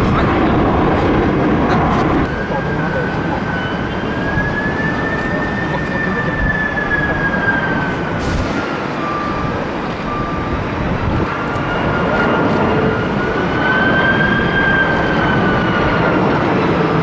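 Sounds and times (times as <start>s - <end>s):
jet engines roaring and whining: 0.0s - 17.0s.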